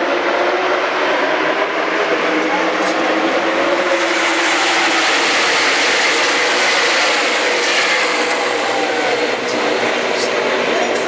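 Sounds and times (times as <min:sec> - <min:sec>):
race cars roaring past: 0:00.0 - 0:11.0.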